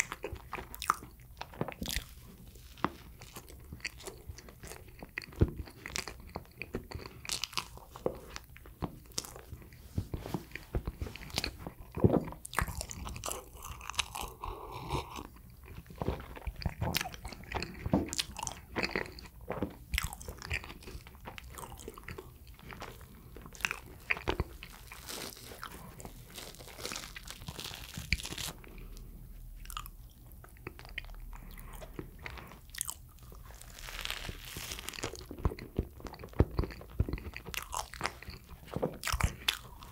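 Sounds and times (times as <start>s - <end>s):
person chewing bread: 0.0s - 39.9s.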